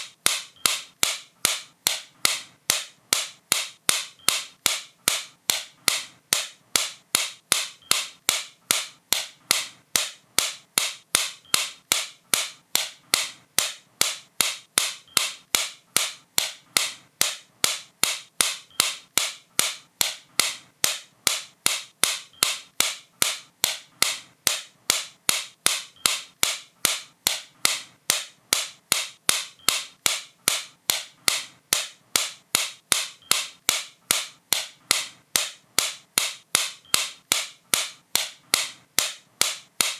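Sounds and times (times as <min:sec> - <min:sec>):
sharp bright clicks: 0:00.0 - 0:39.9.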